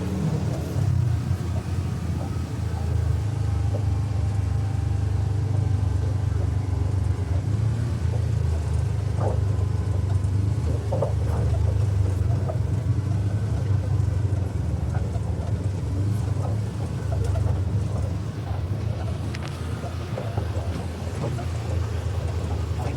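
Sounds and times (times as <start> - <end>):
vehicle engine rumbling: 0.0 - 22.9.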